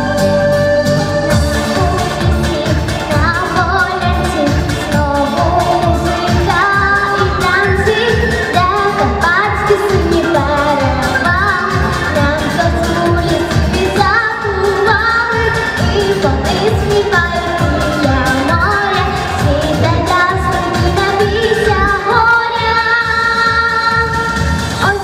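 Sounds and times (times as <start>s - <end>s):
backing track with steady beat: 0.0s - 25.0s
girl singing into a microphone: 0.0s - 25.0s.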